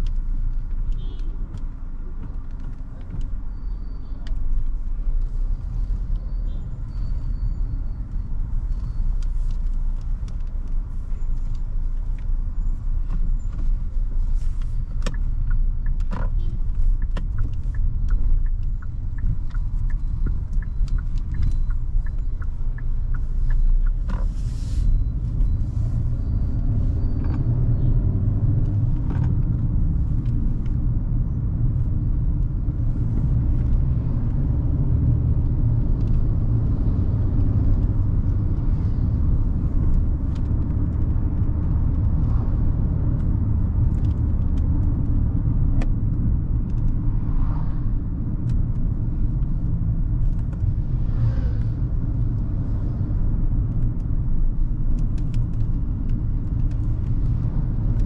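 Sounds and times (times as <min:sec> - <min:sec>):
car engine rumble while driving: 0:00.0 - 0:58.0.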